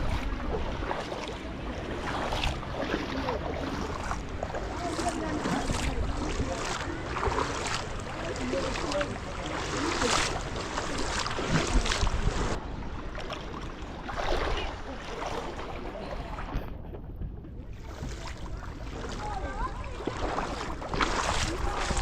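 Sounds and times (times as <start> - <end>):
floodwater rushing and splashing: 0.0 - 16.6, 17.8 - 22.0.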